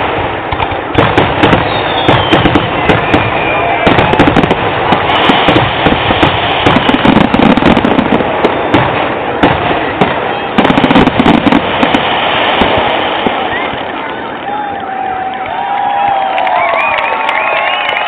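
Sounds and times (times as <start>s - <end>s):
fireworks bangs and crackles: 0.0s - 18.0s
fireworks rumble: 0.0s - 18.0s.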